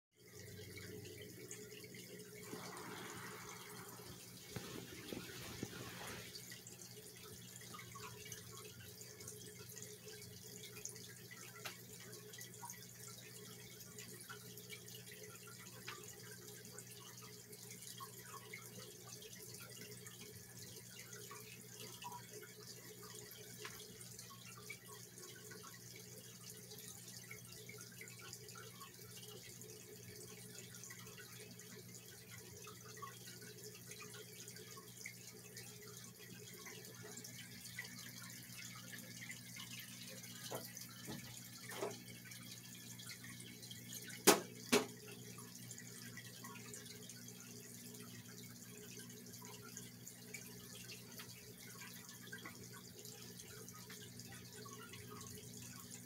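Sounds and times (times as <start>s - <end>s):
water dripping and trickling: 0.2s - 56.0s.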